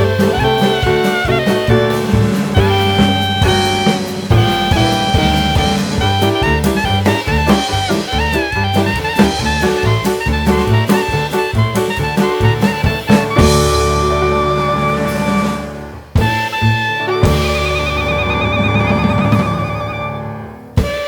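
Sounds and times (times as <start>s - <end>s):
drum kit beat: 0.0s - 20.2s, 20.8s - 21.0s
saxophone: 0.0s - 21.0s
walking bass line: 0.0s - 21.0s.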